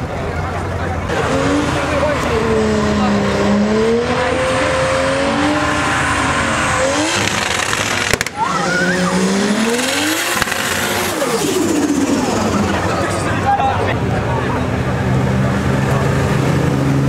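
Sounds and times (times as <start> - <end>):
tyres squealing on asphalt: 0.0 - 14.6
car engine revving: 0.4 - 17.0.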